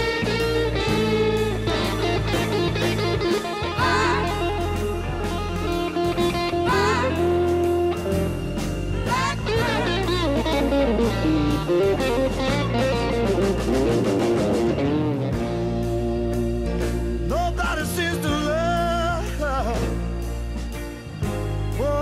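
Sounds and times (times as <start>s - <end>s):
bluesy electric guitar lead: 0.0s - 22.0s
sustained bass: 0.0s - 22.0s.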